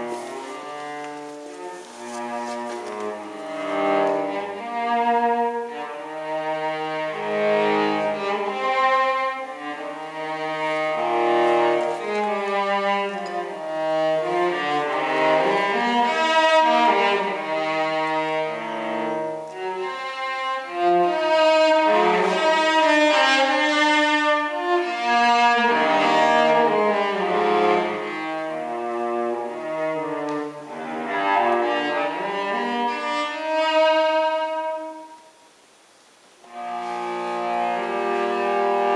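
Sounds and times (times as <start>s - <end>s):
solo cello playing: 0.0s - 35.5s, 36.4s - 38.9s.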